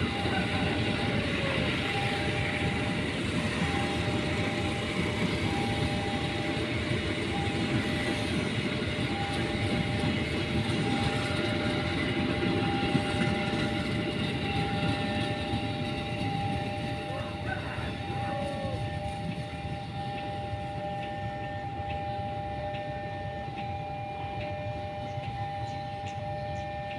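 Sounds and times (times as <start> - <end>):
steady high tone: 0.0 - 26.9
train wheels rumbling on rails: 0.0 - 26.9.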